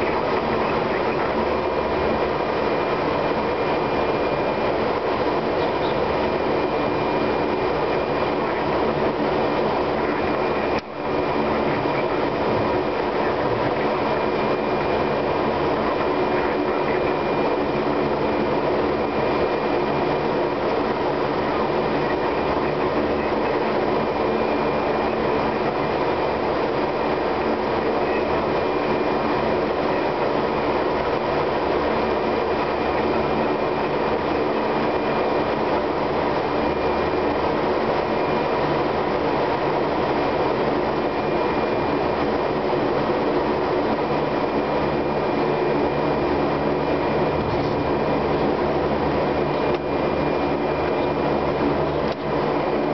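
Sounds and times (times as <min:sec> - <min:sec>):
turboprop engines droning: 0:00.0 - 0:52.9.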